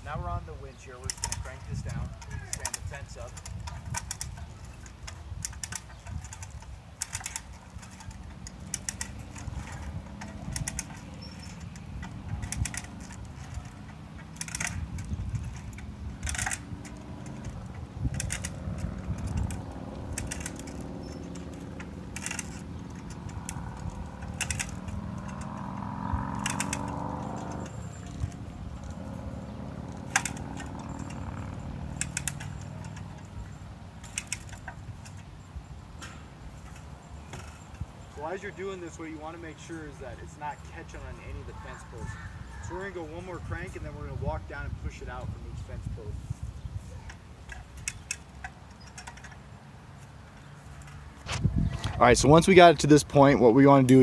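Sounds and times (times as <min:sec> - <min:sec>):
wind rumble on microphone: 0:00.0 - 0:38.8, 0:41.0 - 0:48.2, 0:51.2 - 0:52.7
winch ratchet clicking: 0:00.9 - 0:41.4, 0:47.1 - 0:51.0
strained creak under load: 0:00.9 - 0:43.9, 0:46.8 - 0:52.0.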